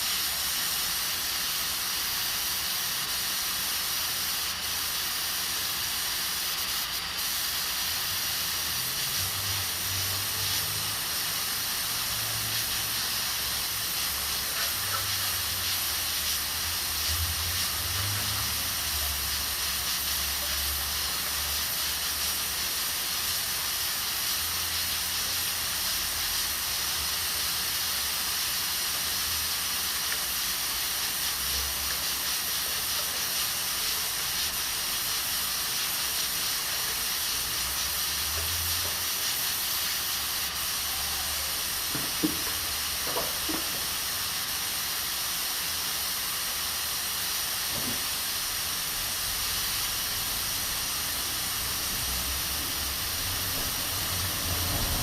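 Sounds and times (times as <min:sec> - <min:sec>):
pressure cooker hissing: 0:00.0 - 0:55.0.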